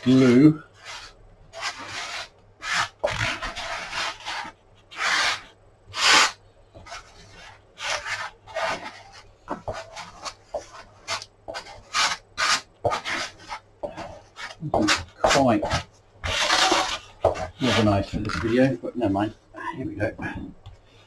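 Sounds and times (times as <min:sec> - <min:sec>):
glue spreader scraping foam board: 0:00.0 - 0:18.8.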